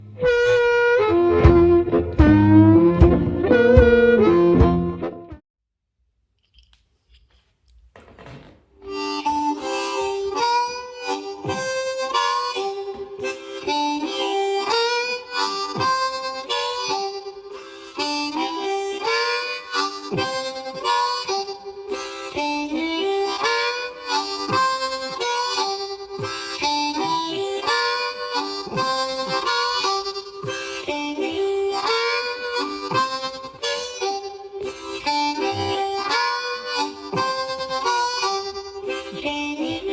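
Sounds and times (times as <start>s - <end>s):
blues harmonica riff: 0.0s - 5.4s, 8.8s - 39.9s.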